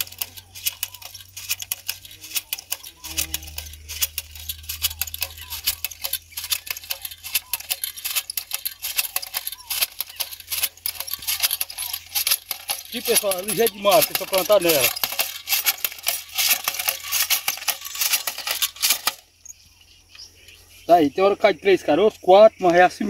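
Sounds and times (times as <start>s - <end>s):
hand planter clacking and rattling: 0.0s - 19.3s.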